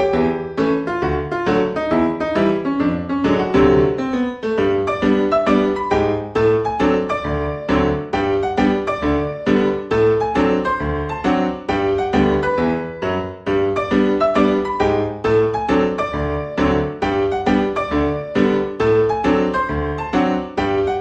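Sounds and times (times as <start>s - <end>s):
piano playing lively notes: 0.0s - 21.0s.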